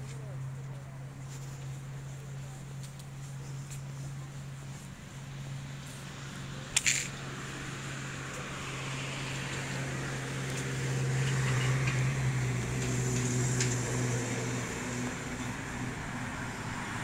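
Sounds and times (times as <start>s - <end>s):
street noise: 0.0s - 17.0s
vehicle engine hum: 0.0s - 17.0s.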